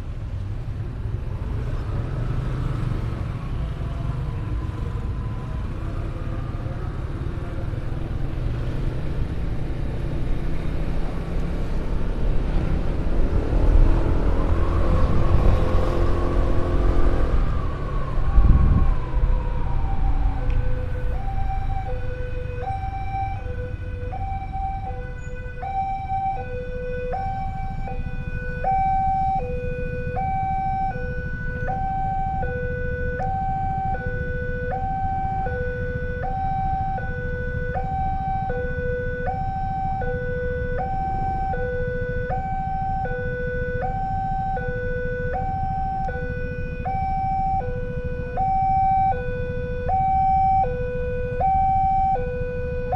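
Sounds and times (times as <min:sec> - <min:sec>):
falling siren sweep: 0:02.5 - 0:52.9
two-tone emergency siren: 0:03.4 - 0:52.9.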